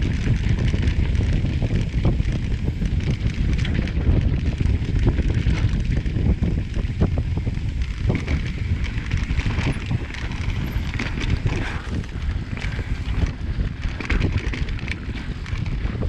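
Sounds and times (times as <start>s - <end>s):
bike rattling over rough ground: 0.0s - 16.0s
wind buffeting microphone: 0.0s - 16.0s.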